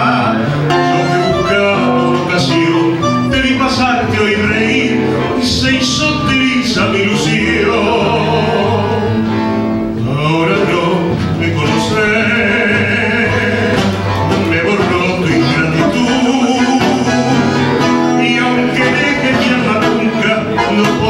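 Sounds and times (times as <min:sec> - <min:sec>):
man singing into microphone: 0:00.0 - 0:09.3, 0:09.9 - 0:21.0
instrumental accompaniment: 0:00.0 - 0:21.0.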